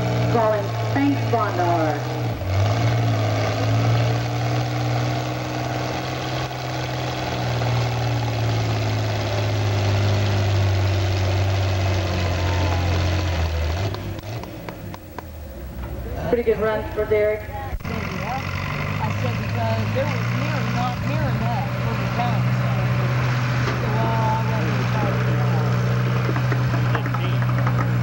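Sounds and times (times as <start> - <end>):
tractor engine under full load: 0.0 - 28.0.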